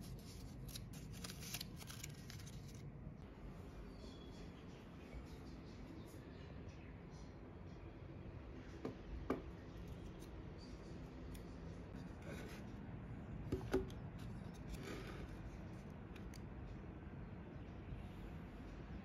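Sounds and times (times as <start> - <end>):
low room noise: 0.0 - 19.0.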